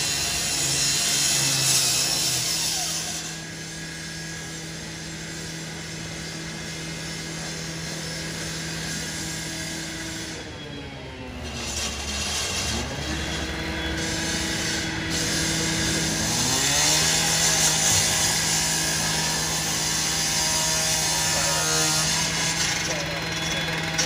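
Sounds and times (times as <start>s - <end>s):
circular saw grinding metal: 0.0s - 10.6s, 11.3s - 24.0s.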